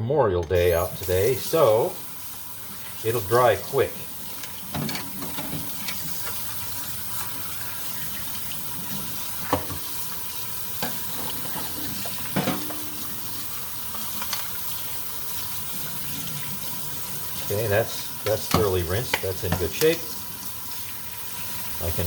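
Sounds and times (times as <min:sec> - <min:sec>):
tap water running into sink: 0:00.6 - 0:22.0.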